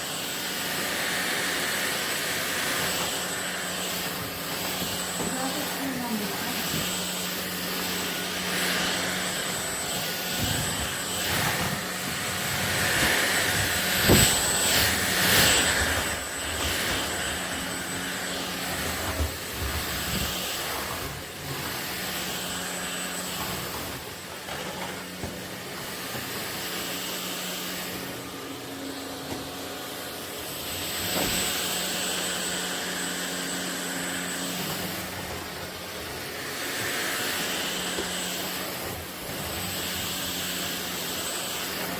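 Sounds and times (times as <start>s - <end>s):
stick vacuum motor whining: 0.0s - 41.9s.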